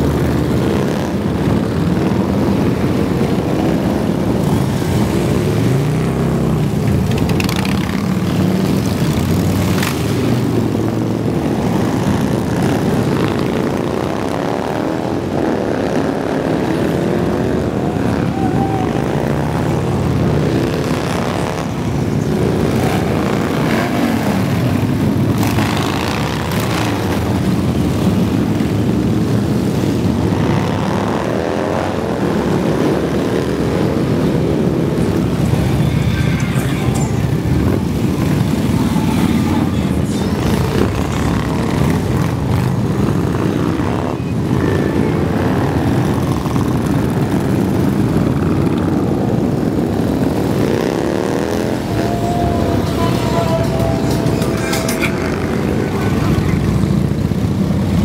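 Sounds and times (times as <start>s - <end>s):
motorcycles riding past: 0.0s - 58.0s.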